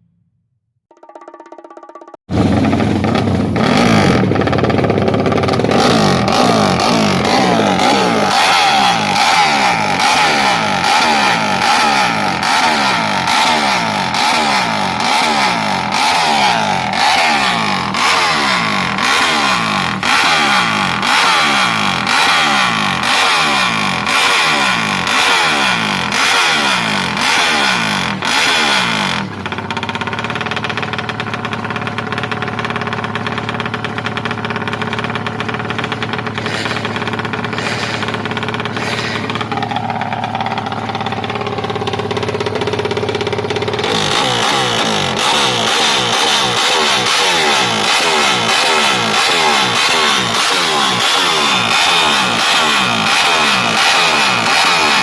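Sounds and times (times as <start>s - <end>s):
motorcycle engine revving: 2.2s - 55.0s
motorcycle engine idling: 2.3s - 55.0s.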